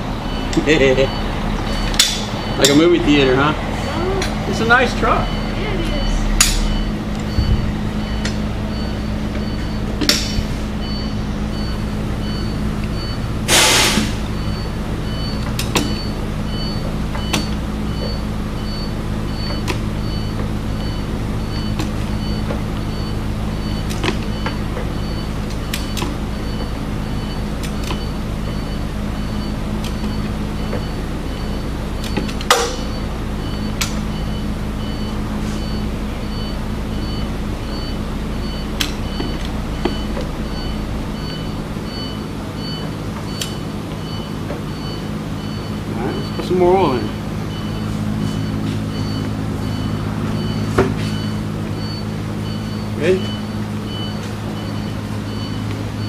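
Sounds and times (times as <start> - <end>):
rapid high electronic beeps: 0.2 - 3.4, 4.6 - 9.9, 10.8 - 27.4, 28.0 - 55.7.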